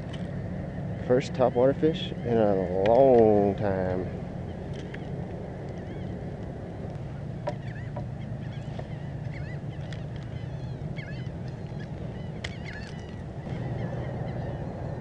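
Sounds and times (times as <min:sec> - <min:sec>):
low rumble: 0:00.0 - 0:15.0
water birds chattering: 0:00.0 - 0:15.0.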